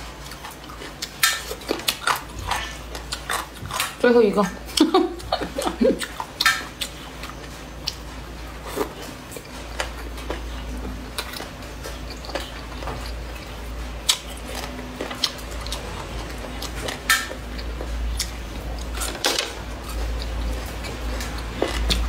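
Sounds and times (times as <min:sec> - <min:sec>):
steady low hum: 0:00.0 - 0:22.0
wet chewing with crunches: 0:00.0 - 0:22.0.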